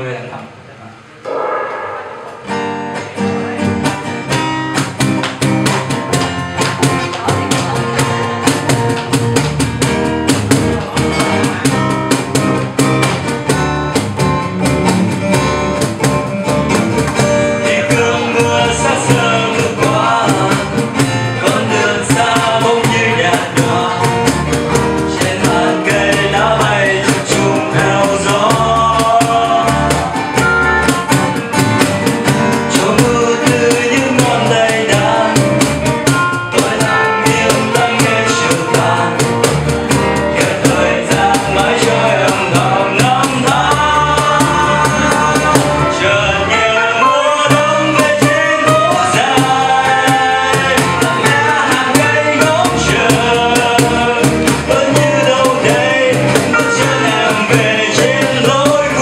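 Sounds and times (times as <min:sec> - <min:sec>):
pop song with guitar: 0:01.7 - 0:59.0.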